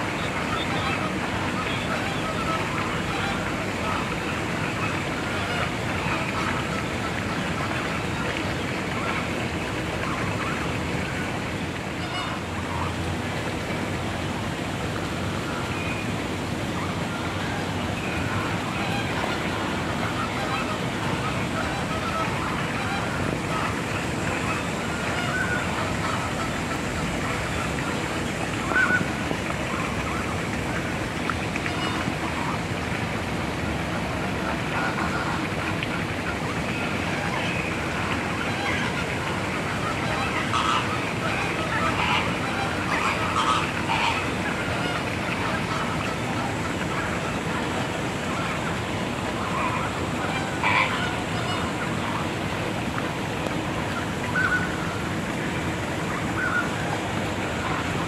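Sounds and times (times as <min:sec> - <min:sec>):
flamingos calling: 0:00.0 - 0:11.2, 0:11.9 - 0:13.0, 0:15.3 - 0:32.7, 0:34.1 - 0:58.0.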